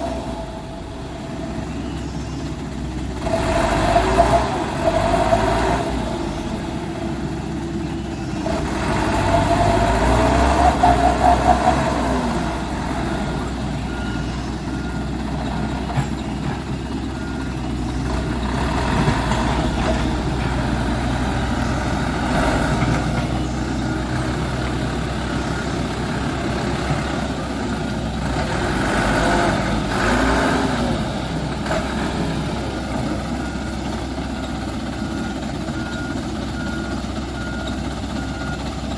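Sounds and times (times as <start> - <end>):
dump truck engine revving: 0.0 - 38.9.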